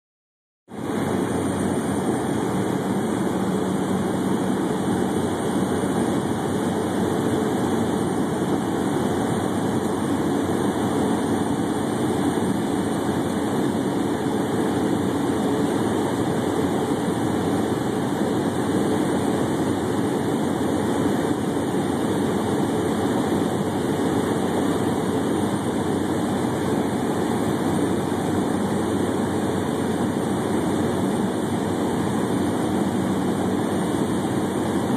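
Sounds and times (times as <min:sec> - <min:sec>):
aircraft cabin engine drone: 0:00.7 - 0:34.9.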